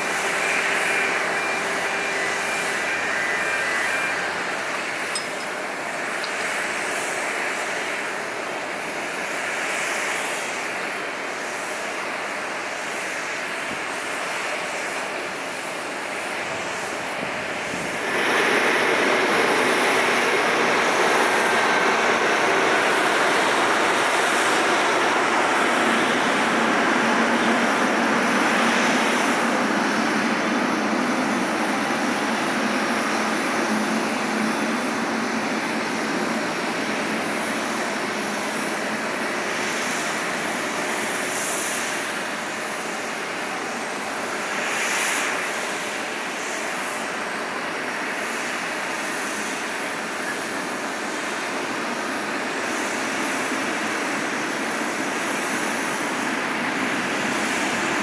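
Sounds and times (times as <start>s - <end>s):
jet airliner engine rush: 0.0s - 58.0s.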